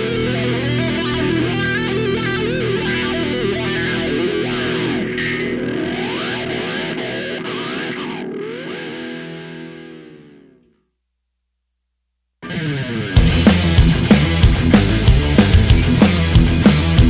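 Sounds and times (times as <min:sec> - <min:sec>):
rock music with distorted guitar: 0:00.0 - 0:10.6, 0:12.4 - 0:17.0.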